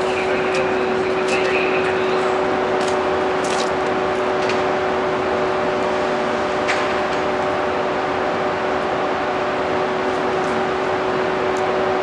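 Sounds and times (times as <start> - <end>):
electric train humming: 0.0 - 12.0.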